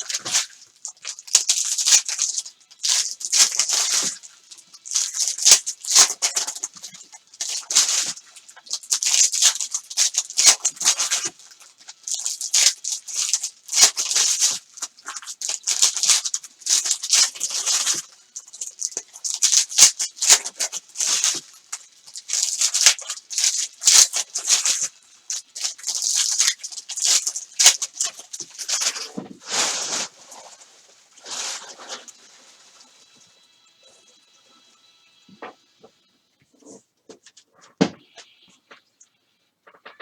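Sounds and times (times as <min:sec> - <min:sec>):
card pack wrappers crinkling: 0:00.0 - 0:32.9.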